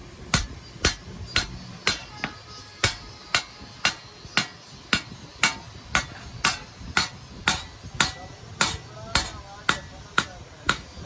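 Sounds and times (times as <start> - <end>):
hammer striking chisel on metal: 0.3 - 11.0.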